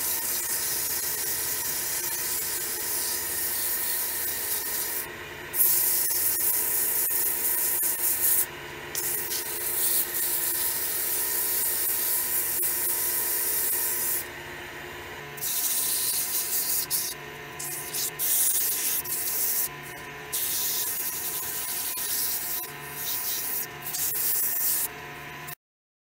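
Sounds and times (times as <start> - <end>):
sandpaper hissing on spinning wood: 0.0 - 14.3, 15.4 - 24.9.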